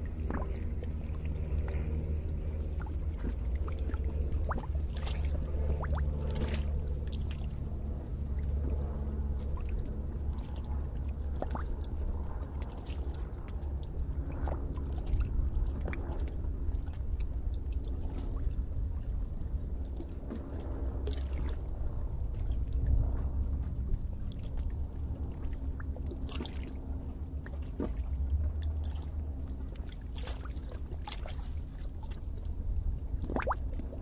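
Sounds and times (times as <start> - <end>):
lake water bubbling and gurgling: 0.0 - 34.0
steady low rumble: 0.0 - 34.0.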